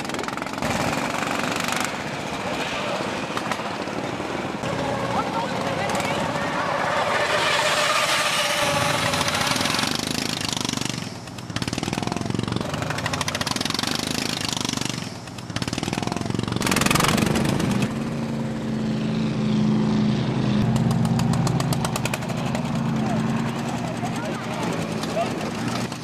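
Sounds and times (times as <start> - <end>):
small petrol engine running hard: 0.0 - 26.0.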